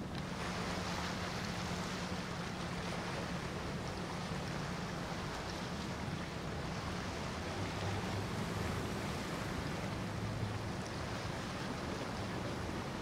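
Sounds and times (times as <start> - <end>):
bow wave and wake rushing: 0.0 - 13.0
motor yacht engines droning: 0.0 - 13.0.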